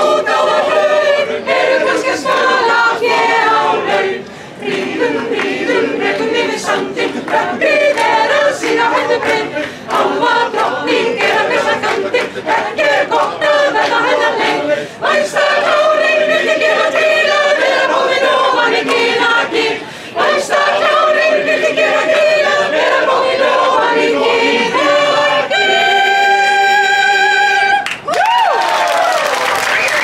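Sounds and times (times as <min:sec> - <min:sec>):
yodel choir singing a cappella: 0:00.0 - 0:27.9.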